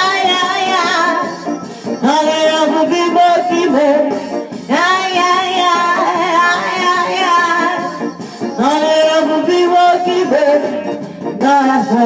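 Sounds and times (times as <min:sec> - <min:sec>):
woman singing: 0:00.0 - 0:10.8, 0:11.4 - 0:12.0.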